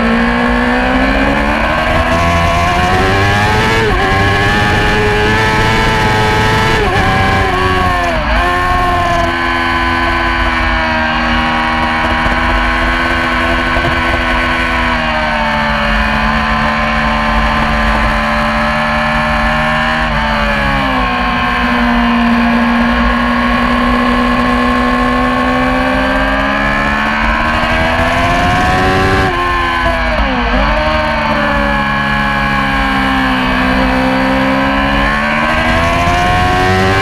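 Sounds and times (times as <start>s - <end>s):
sport bike engine at high revs: 0.0s - 37.0s.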